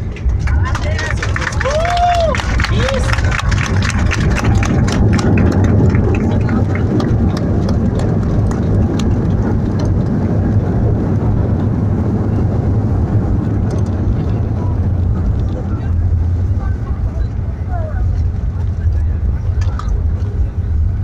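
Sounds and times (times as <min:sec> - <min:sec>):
airliner engines and wheels rumbling: 0:00.0 - 0:21.0.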